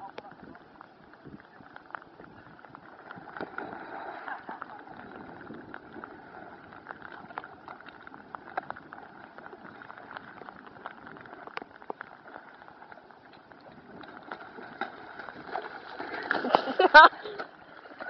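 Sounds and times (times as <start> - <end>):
water pattering and splashing: 0.0 - 18.0.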